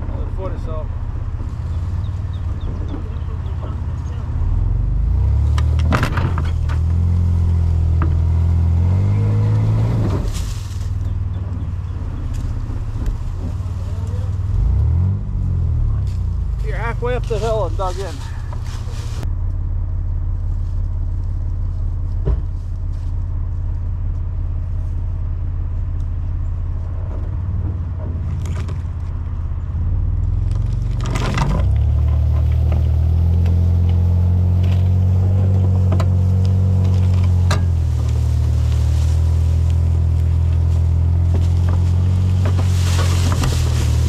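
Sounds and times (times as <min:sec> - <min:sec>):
vehicle engine running under load: 0:00.0 - 0:44.0.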